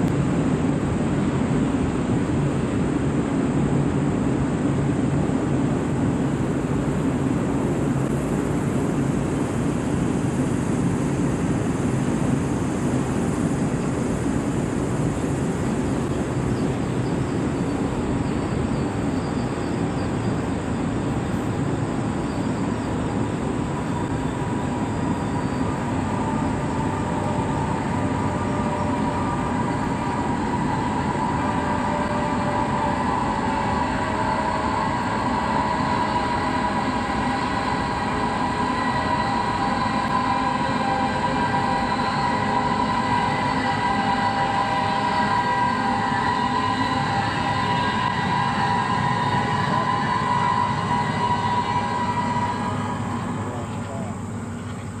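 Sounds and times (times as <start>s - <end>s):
train rumbling over viaduct: 0.0s - 55.0s
steel wheels squealing on rail: 3.7s - 55.0s.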